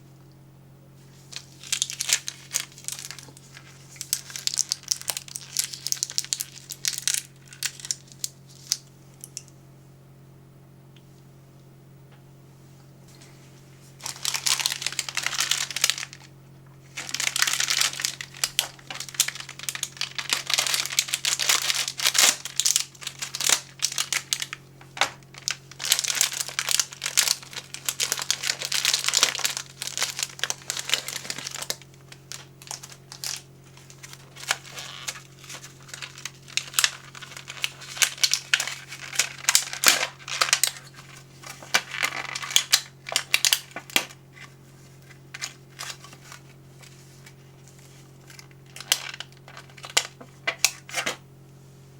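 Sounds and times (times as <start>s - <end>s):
plastic packaging crinkling: 1.1s - 9.5s, 13.9s - 51.2s.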